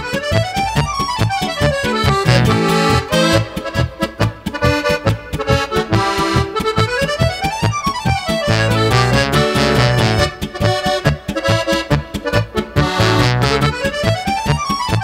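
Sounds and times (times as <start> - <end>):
button accordion playing: 0.0 - 15.0.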